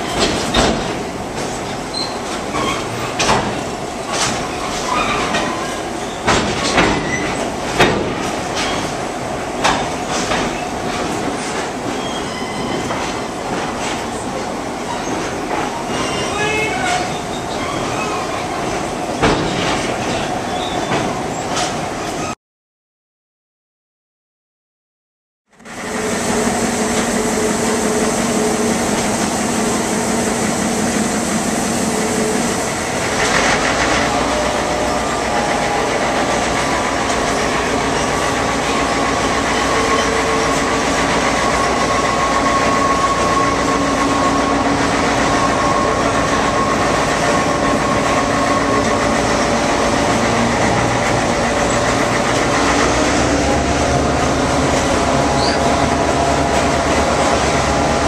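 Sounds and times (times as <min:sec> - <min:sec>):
train wheel and rail noise: 0:00.0 - 0:22.4, 0:25.6 - 0:58.0.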